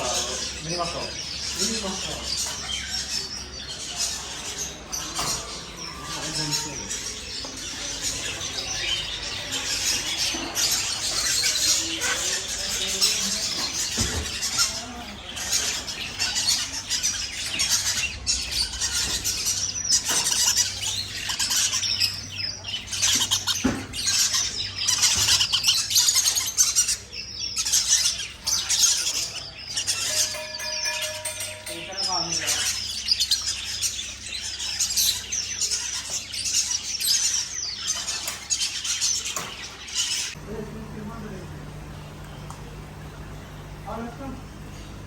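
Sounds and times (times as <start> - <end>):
caged birds chirping and squawking: 0.0 - 45.0.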